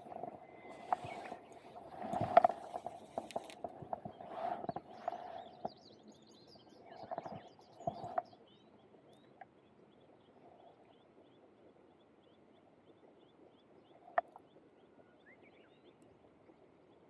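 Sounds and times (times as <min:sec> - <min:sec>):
small bird chirping: 0:00.0 - 0:16.2.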